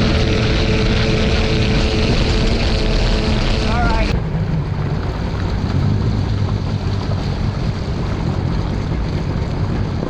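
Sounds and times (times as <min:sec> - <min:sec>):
jet ski engine rumble: 0:00.0 - 0:10.0
wind noise on microphone: 0:00.0 - 0:10.0.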